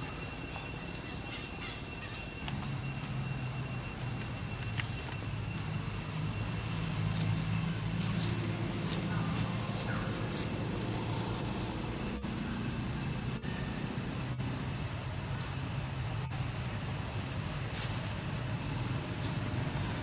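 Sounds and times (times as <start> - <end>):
faint high-pitched tones: 0.0 - 20.0
vehicle engine rumble: 2.1 - 20.0.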